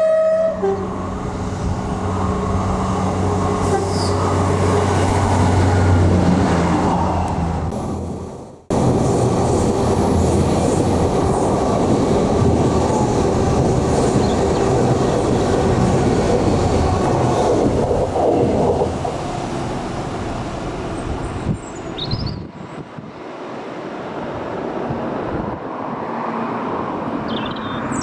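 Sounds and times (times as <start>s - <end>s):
train wheels rumbling on rail: 0.0s - 27.2s.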